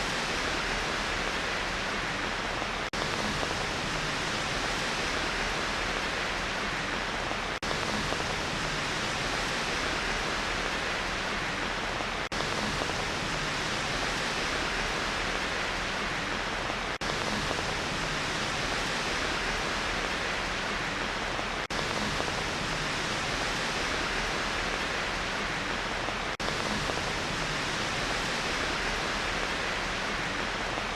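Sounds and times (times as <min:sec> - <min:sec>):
steady rain hiss: 0:00.0 - 0:30.9.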